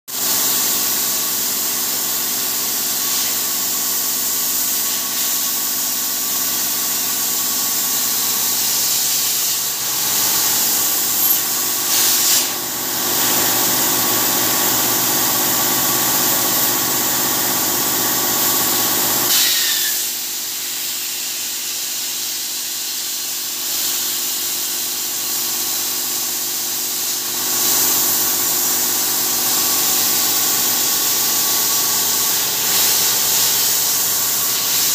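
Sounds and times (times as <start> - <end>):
plasma cutter hissing: 0.1 - 34.9.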